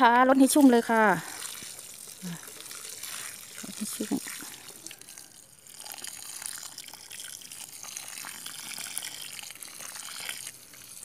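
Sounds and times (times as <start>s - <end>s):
water sprinkling onto soil: 0.0s - 11.0s.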